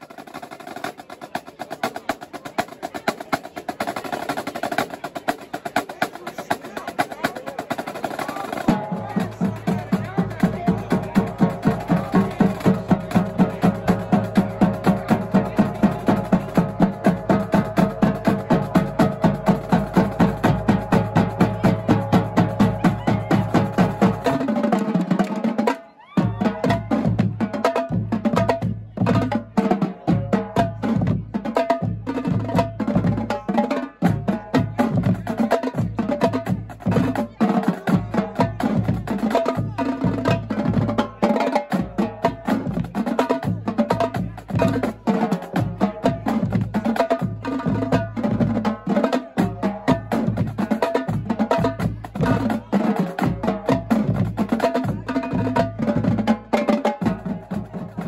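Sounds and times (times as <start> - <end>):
marching drumline playing: 0.0 - 58.0.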